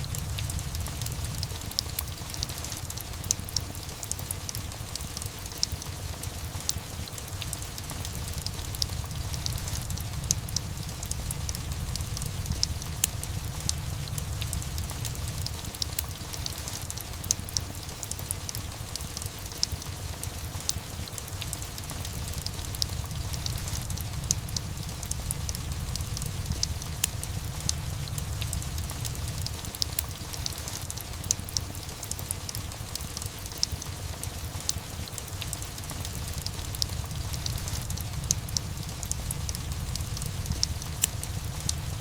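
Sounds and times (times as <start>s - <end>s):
fireplace crackling: 0.0s - 42.0s
steady rain: 0.0s - 42.0s.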